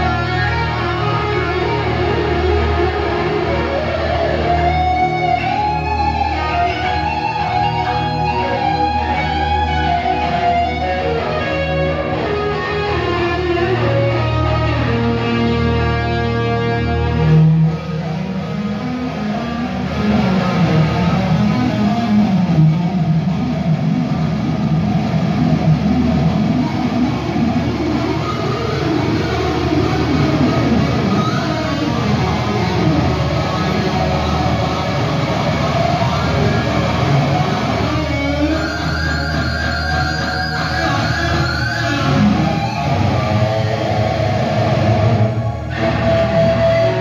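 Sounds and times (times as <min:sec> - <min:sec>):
lead guitar high note: 0:00.0 - 0:47.0
live rock band playing: 0:00.0 - 0:47.0.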